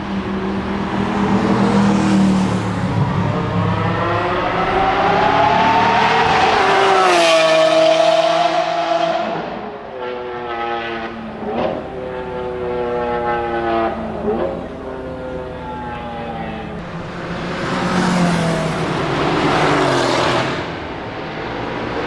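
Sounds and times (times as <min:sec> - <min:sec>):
sports car engine passing by: 0:00.1 - 0:22.0.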